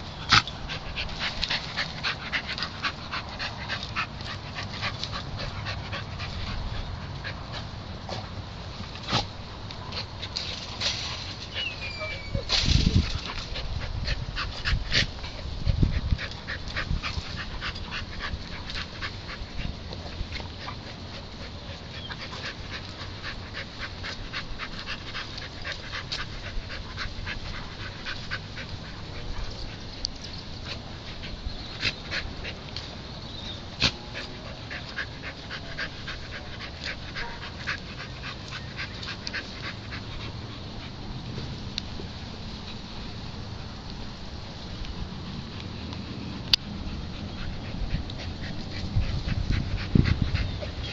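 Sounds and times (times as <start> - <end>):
dog snuffling and panting: 0.0 - 43.8, 44.9 - 50.9.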